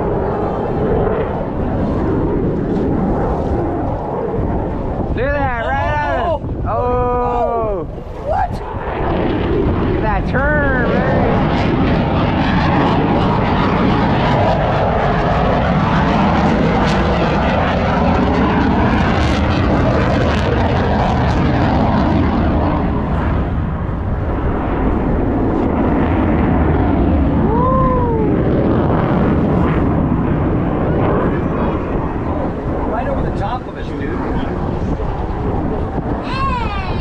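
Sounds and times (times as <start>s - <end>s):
airplane roaring overhead: 0.0s - 37.0s.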